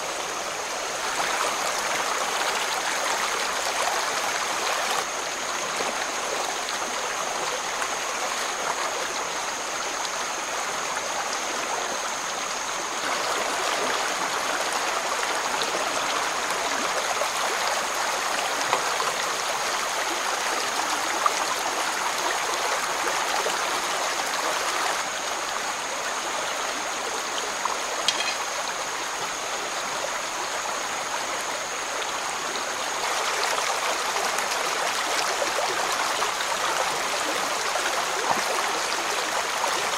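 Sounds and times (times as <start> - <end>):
stream water burbling: 0.0 - 39.9.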